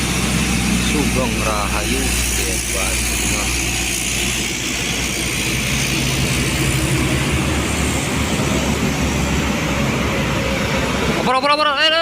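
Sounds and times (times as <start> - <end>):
bus diesel engine running: 0.0 - 12.0
tyre and road noise: 0.0 - 12.0.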